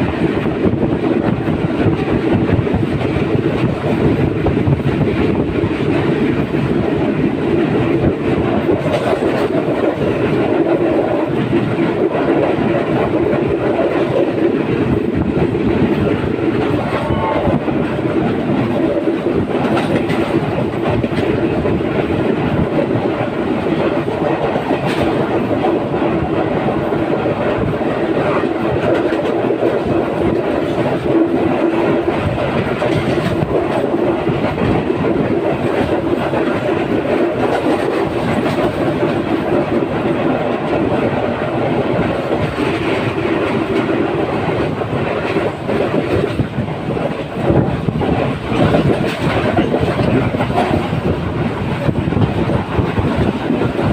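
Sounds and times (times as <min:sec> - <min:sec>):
train wheels clattering over rails: 0:00.0 - 0:53.9.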